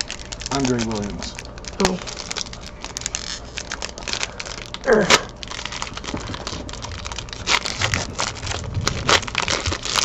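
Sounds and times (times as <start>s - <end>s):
foil wrapper tearing and crinkling: 0.0s - 10.0s.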